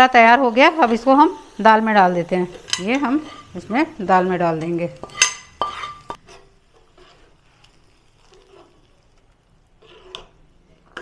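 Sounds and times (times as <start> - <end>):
hot oil sizzle-splash: 0.0 - 11.0.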